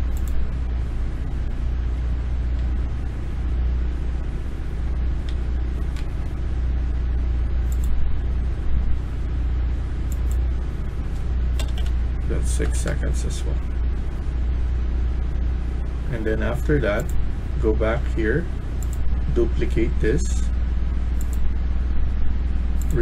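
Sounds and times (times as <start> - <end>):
low rumbling hum: 0.0 - 23.0.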